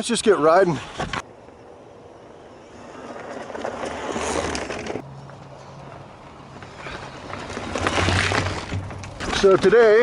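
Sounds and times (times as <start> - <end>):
bike tyres on dirt trail: 0.6 - 10.0.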